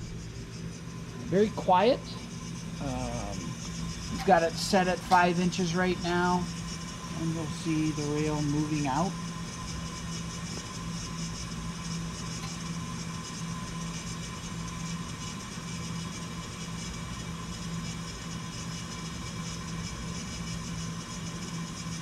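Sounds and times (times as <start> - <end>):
faint high whine: 0.0 - 22.0
machine mechanical hum: 0.0 - 22.0.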